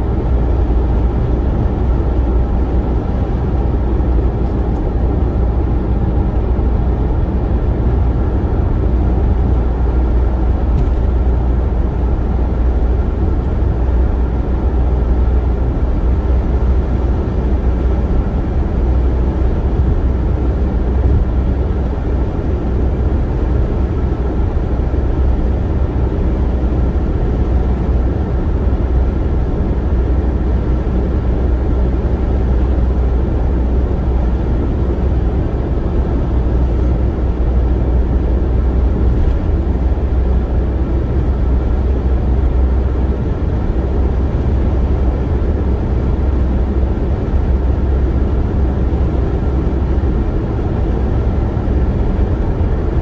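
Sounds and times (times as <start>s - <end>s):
car driving at highway speed: 0.0s - 53.0s.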